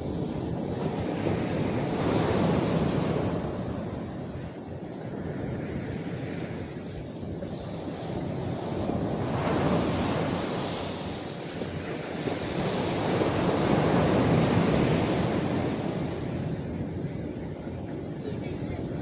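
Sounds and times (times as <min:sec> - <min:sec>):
sea surf washing onto shore: 0:00.0 - 0:19.0.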